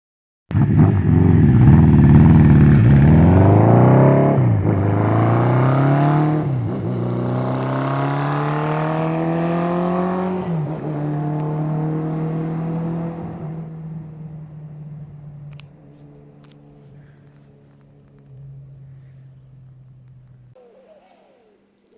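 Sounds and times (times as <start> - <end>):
motorcycle accelerating through gears: 0.5 - 21.9.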